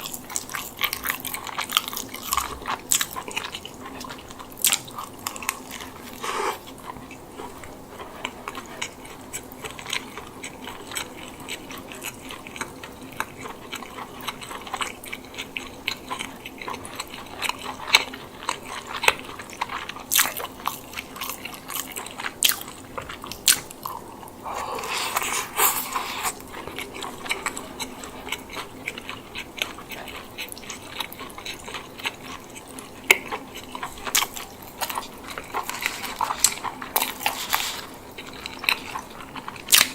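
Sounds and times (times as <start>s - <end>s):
biting and chewing food: 0.0s - 39.9s.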